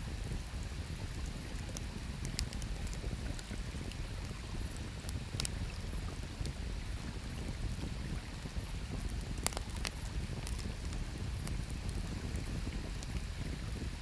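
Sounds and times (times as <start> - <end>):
campfire crackling and popping: 0.2 - 14.0.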